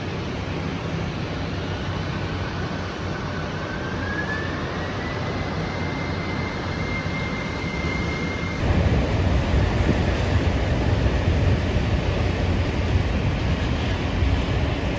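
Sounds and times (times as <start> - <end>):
deep jet engine rumble: 0.0 - 14.9
jet engine whine: 0.0 - 14.9.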